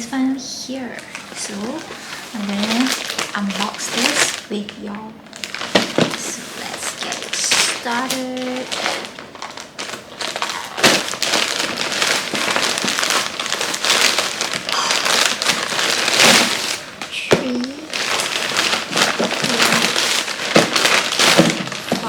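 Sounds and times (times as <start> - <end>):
packaging crinkling and tearing: 0.0 - 22.0.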